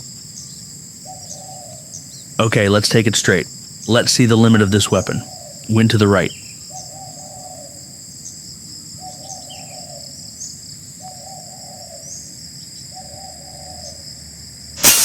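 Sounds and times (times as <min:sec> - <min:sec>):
bird low call: 0:00.0 - 0:07.9, 0:09.0 - 0:14.0
faint high bird chirps: 0:00.0 - 0:08.4, 0:09.0 - 0:14.0
insects buzzing: 0:00.0 - 0:15.0.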